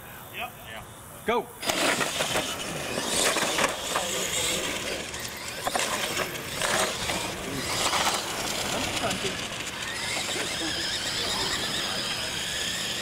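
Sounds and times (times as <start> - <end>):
rc truck motors and tyres: 1.6 - 13.0.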